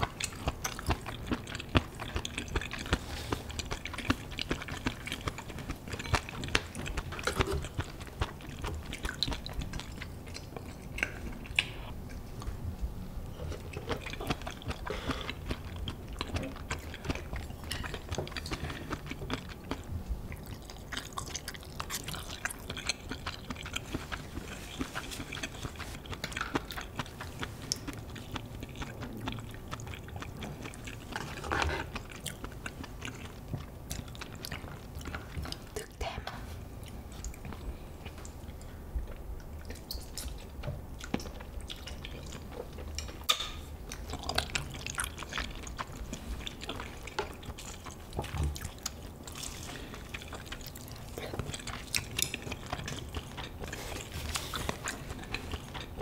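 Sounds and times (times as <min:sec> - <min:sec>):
chewing and biting: 0:00.0 - 0:12.6, 0:13.4 - 0:56.0.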